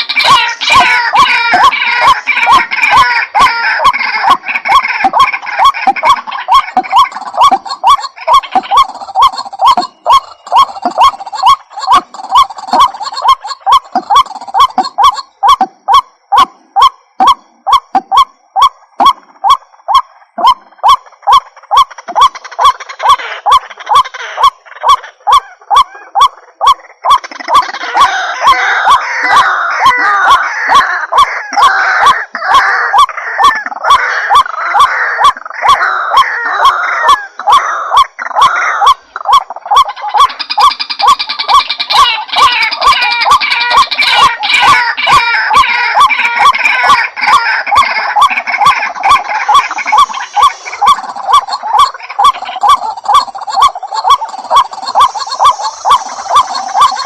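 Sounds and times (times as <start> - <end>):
harsh overlapping bird calls: 0.0 - 57.0
waterhen calling: 0.0 - 57.0.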